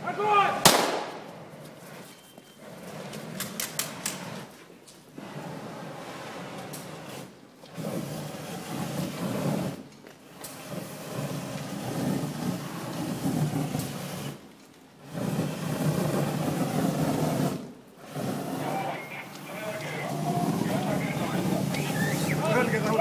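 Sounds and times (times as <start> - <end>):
large fire roaring: 0.0 - 23.0.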